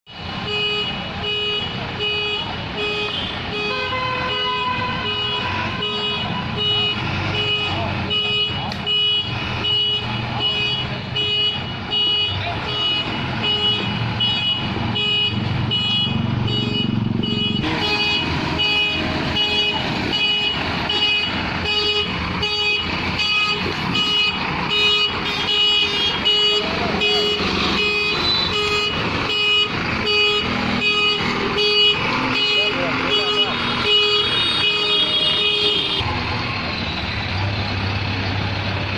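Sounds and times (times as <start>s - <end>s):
diesel engine running: 5.6s - 38.9s.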